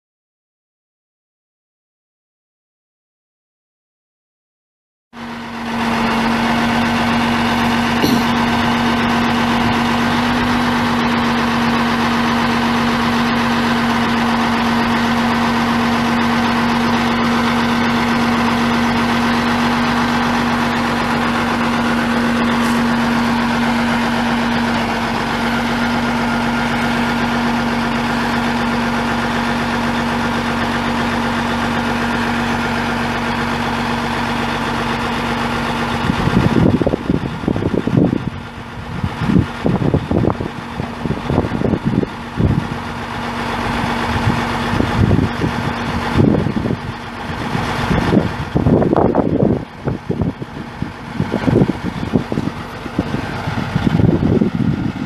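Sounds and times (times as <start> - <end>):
diesel engine idling: 5.2 - 55.0.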